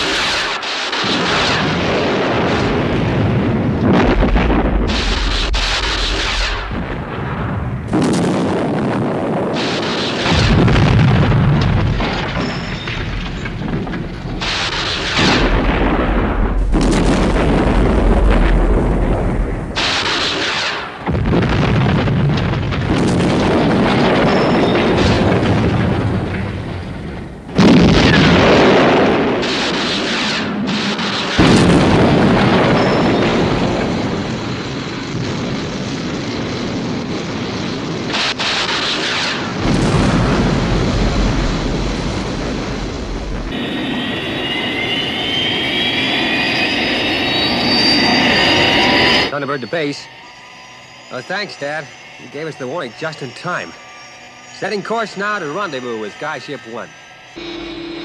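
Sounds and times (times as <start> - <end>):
explosions and rumbling blasts: 0.0 - 56.6.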